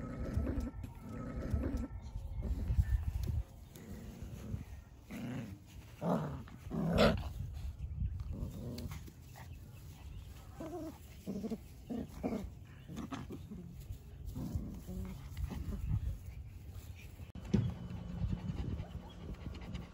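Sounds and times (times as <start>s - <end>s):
puppies growling and yipping: 0.0s - 16.4s.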